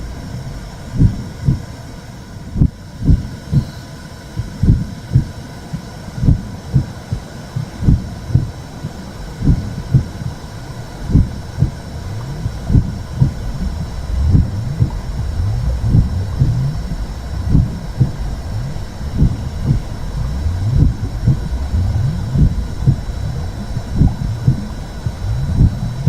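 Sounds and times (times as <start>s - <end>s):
slow double-thump heartbeat: 0.0s - 1.8s, 2.4s - 3.8s, 4.4s - 26.0s
low rumbling noise: 0.0s - 26.0s.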